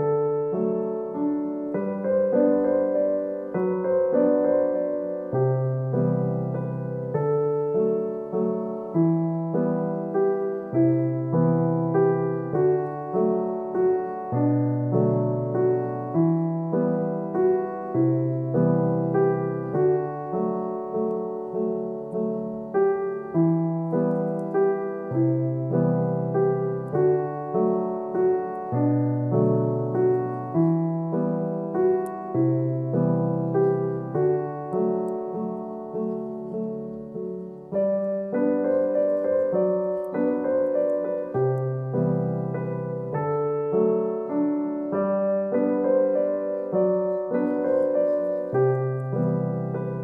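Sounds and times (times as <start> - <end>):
gentle piano music: 0.0 - 50.0.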